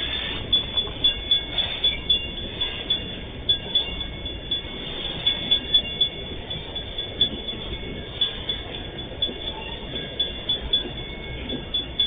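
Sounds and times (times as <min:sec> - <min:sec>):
freight train rolling past: 0:00.0 - 0:12.0
train wheels clacking over rail joints: 0:00.0 - 0:12.0.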